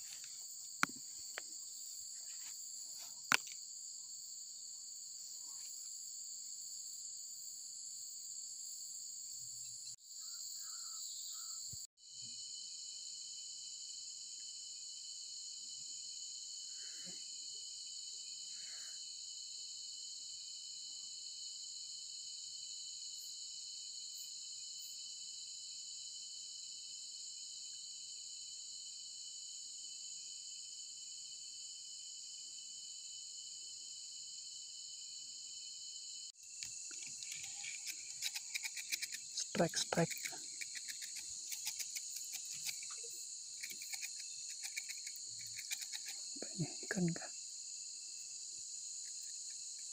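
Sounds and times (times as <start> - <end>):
crickets and night insects chirping: 0.0 - 49.9.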